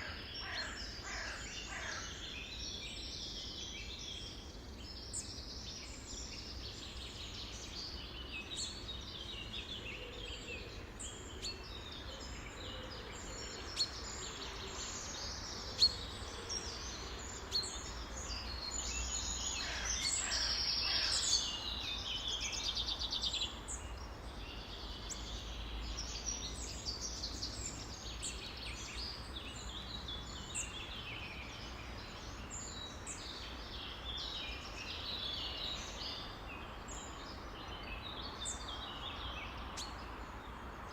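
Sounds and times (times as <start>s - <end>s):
chorus of songbirds: 0.0s - 40.9s.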